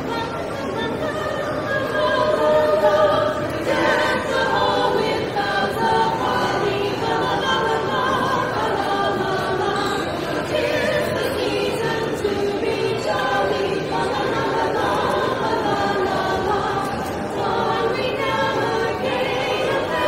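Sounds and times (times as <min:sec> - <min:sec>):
choir singing in harmony: 0:00.0 - 0:20.0.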